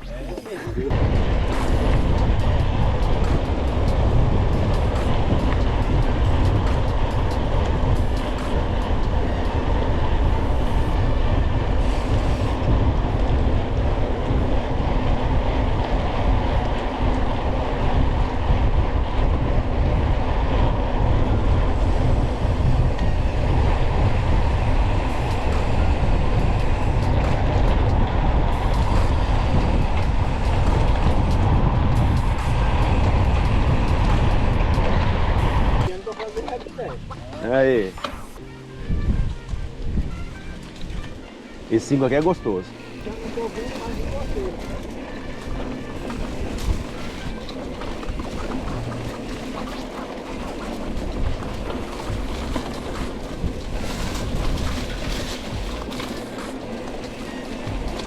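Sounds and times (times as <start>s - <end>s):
bike rattling over rough ground: 0.0s - 38.4s, 39.3s - 58.0s
wind buffeting microphone: 0.7s - 58.0s.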